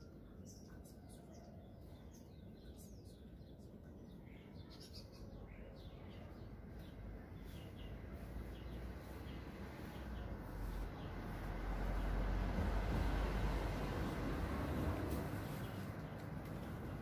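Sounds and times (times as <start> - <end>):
small birds chirping: 0.0 - 13.4, 14.0 - 17.0.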